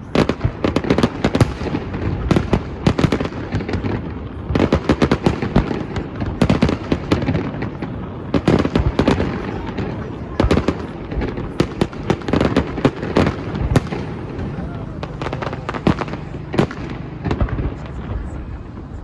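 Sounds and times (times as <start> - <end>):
fireworks bangs and crackles: 0.0 - 19.0
rumble of echoing explosions: 0.0 - 19.0.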